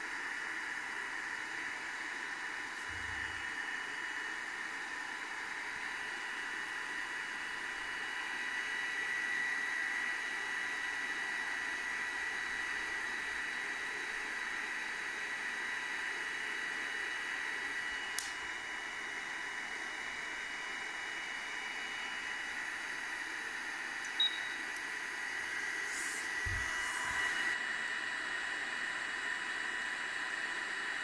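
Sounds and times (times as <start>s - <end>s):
small fan hissing with high whine: 0.0s - 31.0s.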